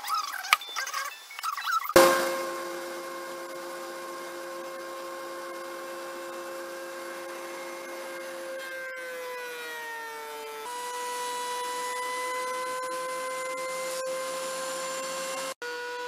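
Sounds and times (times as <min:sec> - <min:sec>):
thickness planer motor whine: 0:02.0 - 0:15.5.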